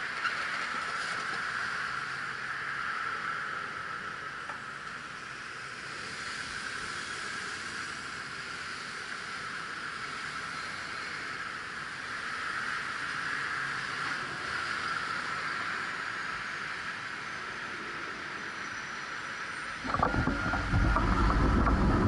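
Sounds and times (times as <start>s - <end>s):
street traffic hiss: 0.0s - 19.8s.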